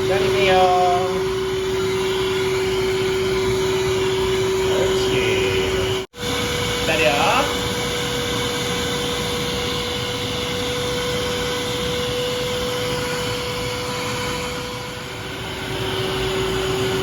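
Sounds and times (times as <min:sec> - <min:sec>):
pet dryer blowing air: 0:00.0 - 0:17.0.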